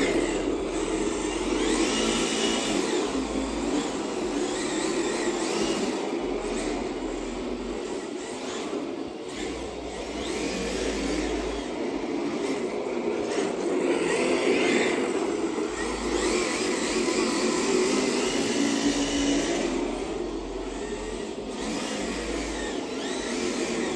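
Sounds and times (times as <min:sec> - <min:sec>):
remote-control car motor whirring: 0:00.0 - 0:23.9.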